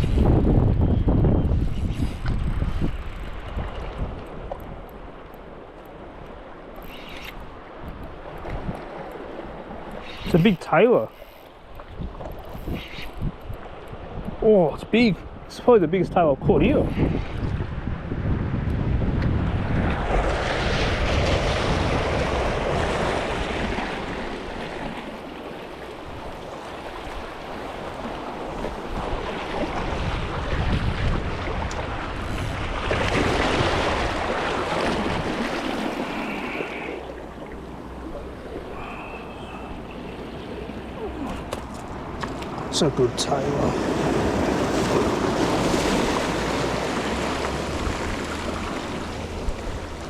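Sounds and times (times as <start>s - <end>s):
wind on microphone: 0.0s - 4.9s, 6.9s - 9.0s, 11.8s - 14.5s, 16.4s - 25.0s, 26.0s - 50.0s
waves washing in: 0.0s - 50.0s.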